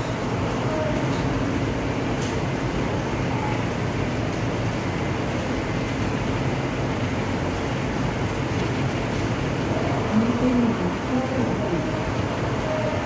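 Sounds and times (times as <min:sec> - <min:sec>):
heavy rain on concrete and roof: 0:00.0 - 0:13.0.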